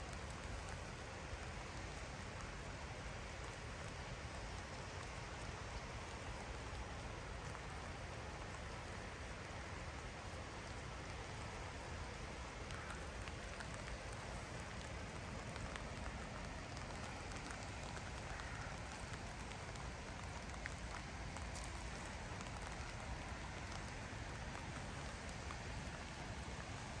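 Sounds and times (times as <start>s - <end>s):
faint raindrop ticks: 0.0s - 27.0s
light rain hissing: 0.0s - 27.0s.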